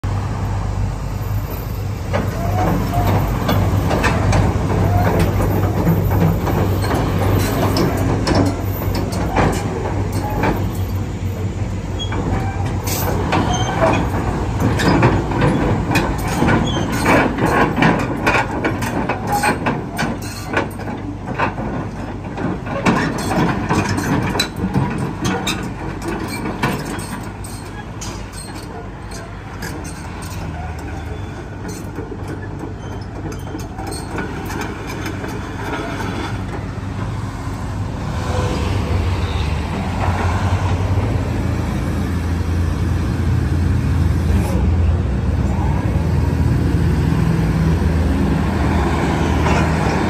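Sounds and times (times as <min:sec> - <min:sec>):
diesel engine running: 0:00.0 - 0:50.0
steel tracks clanking: 0:01.2 - 0:50.0.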